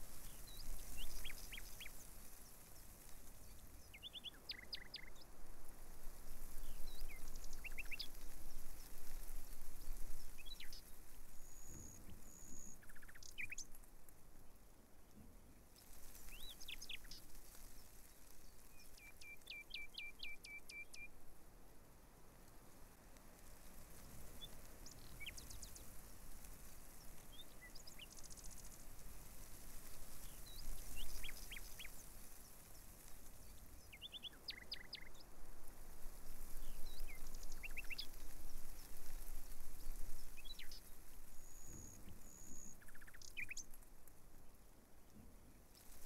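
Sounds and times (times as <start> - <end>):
small birds chirping: 0.0 - 13.9, 15.2 - 21.2, 23.4 - 46.0
faint steady hiss: 0.0 - 46.0.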